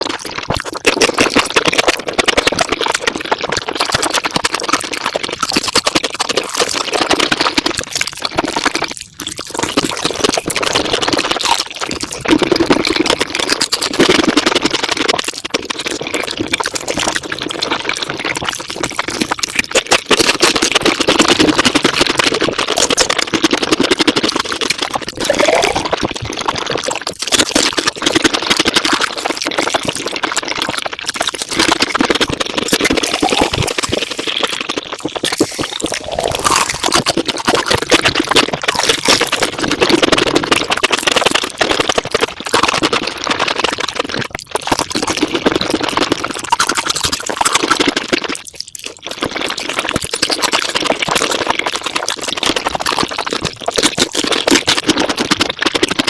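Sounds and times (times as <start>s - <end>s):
sped-up eating and chewing: 0.0s - 56.0s.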